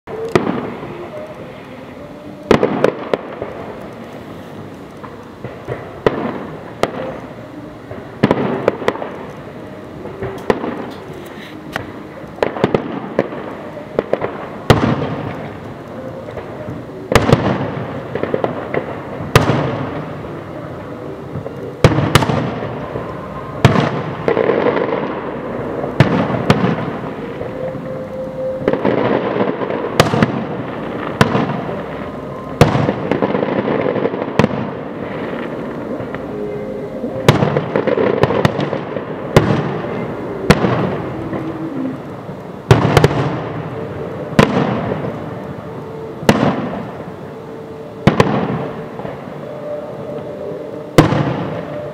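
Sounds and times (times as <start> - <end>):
small firework bursts: 0.1 - 51.9
fireworks shells bursting: 2.4 - 47.0.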